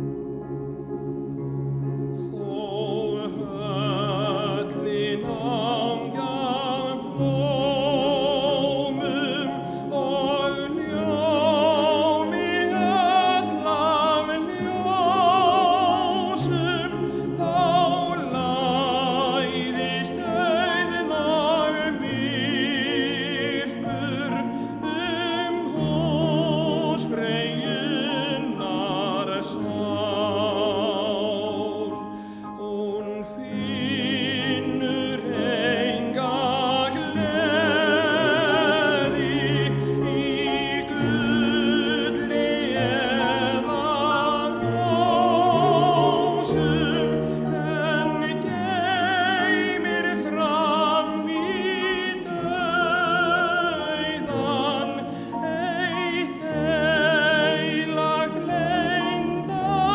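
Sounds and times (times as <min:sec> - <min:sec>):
male choir operatic singing: 0:02.2 - 0:59.9.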